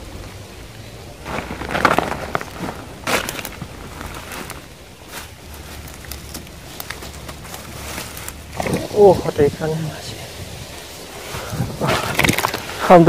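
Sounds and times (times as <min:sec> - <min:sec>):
footsteps crunching through dry leaves: 0:01.2 - 0:13.0.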